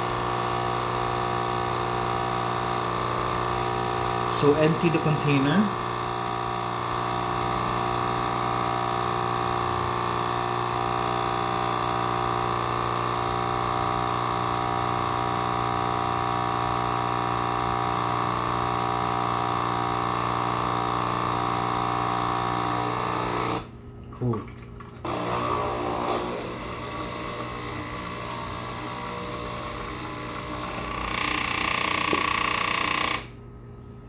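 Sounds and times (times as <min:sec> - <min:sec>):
capsule machine pump buzzing: 0:00.0 - 0:34.0.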